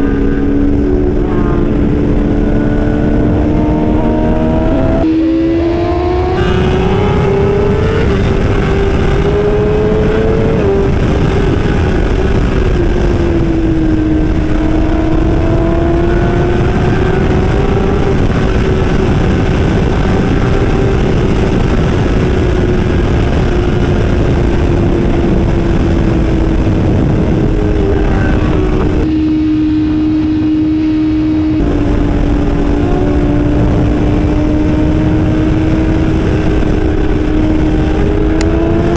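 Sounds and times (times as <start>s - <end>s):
dense rushing noise: 0.0s - 38.9s
motorbike engine at high revs: 0.0s - 38.9s.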